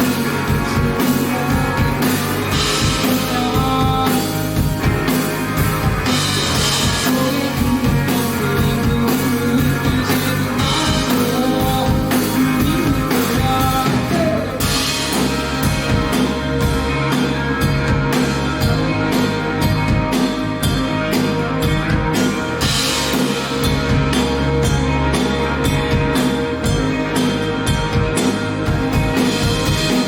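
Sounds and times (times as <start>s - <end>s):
rock band playing live: 0.0s - 30.0s.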